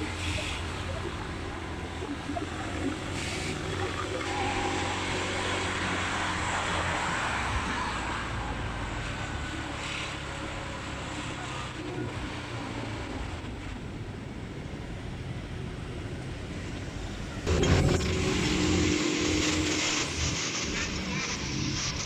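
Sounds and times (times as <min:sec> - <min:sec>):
motorbike engine drone: 0:00.0 - 0:14.4, 0:17.3 - 0:22.0.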